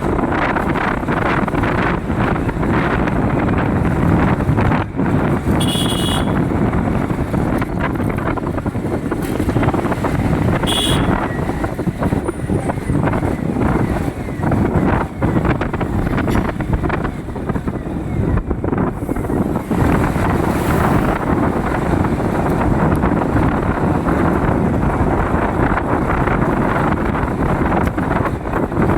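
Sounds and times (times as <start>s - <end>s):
vehicles rumbling on road: 0.0s - 28.9s
wind buffeting microphone: 0.0s - 28.9s.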